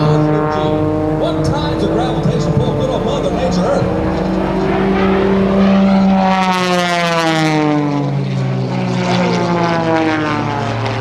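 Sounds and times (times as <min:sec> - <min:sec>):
propeller airplane drone: 0:00.0 - 0:11.0
second airplane drone: 0:00.0 - 0:11.0.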